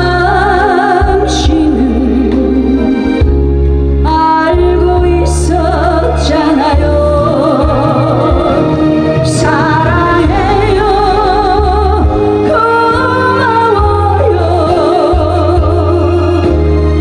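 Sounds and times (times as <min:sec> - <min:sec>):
woman singing into a microphone: 0:00.0 - 0:03.2, 0:04.0 - 0:17.0
amplified accompaniment with heavy bass: 0:00.0 - 0:17.0.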